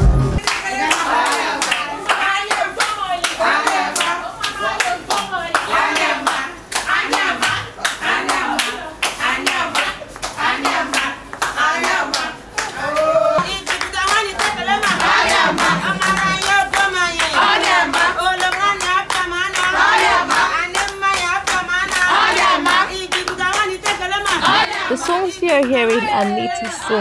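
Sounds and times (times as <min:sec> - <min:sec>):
fast hand clapping: 0:00.4 - 0:12.8, 0:13.4 - 0:26.8
women singing together: 0:00.4 - 0:27.0.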